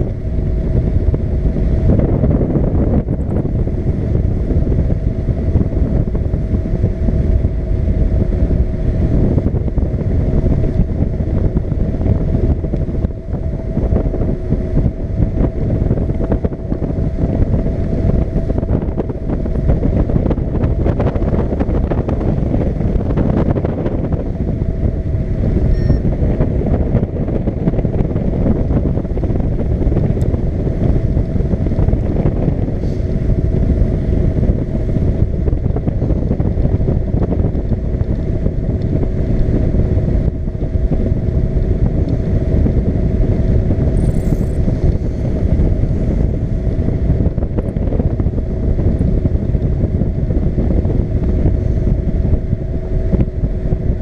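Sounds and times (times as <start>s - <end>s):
paraglider engine droning: 0.0s - 54.0s
wind noise on microphone: 0.0s - 54.0s.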